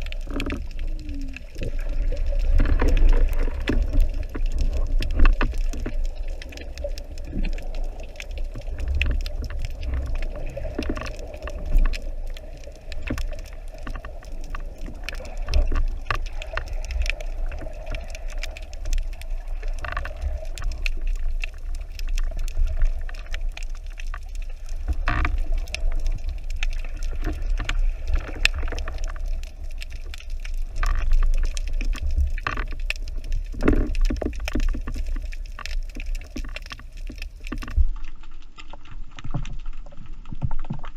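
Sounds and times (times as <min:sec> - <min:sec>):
low rumble of moving water: 0:00.0 - 0:40.9
underwater clicks and knocks: 0:00.0 - 0:40.9.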